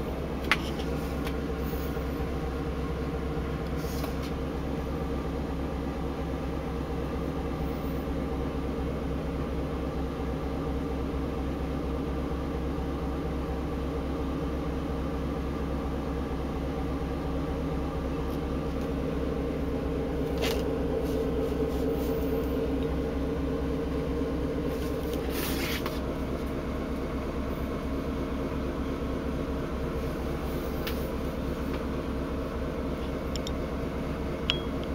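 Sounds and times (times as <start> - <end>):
ship engine low drone: 0.0 - 34.9.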